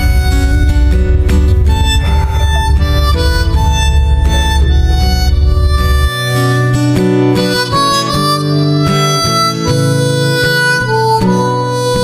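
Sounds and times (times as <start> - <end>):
melody over plucked accompaniment: 0.0 - 12.0.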